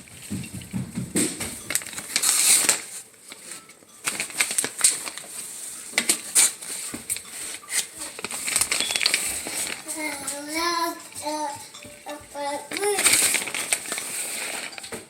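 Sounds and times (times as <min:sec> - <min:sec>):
tortilla chips crackling on plate: 0:01.6 - 0:11.8, 0:12.7 - 0:15.0.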